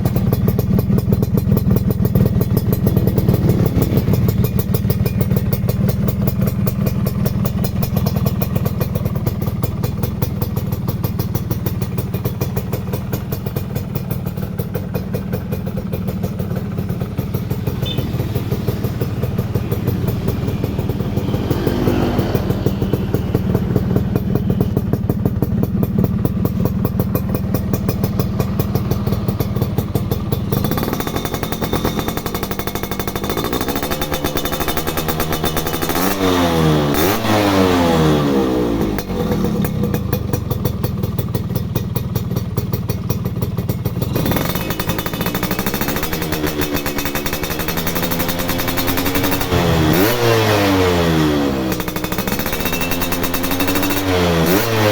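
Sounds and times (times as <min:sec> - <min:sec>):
two-stroke engine idling and revving: 0:00.0 - 0:54.9.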